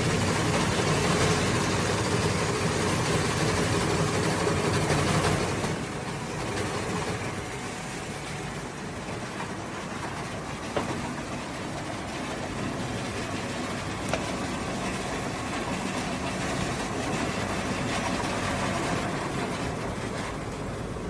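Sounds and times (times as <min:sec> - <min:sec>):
tire cutting machine running: 0:00.0 - 0:21.0.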